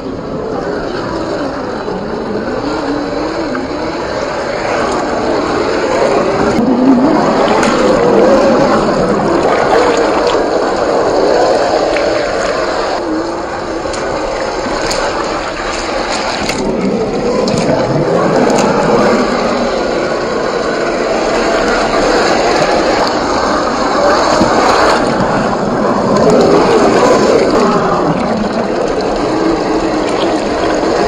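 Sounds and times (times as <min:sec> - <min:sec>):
water splashing: 0:00.0 - 0:31.0.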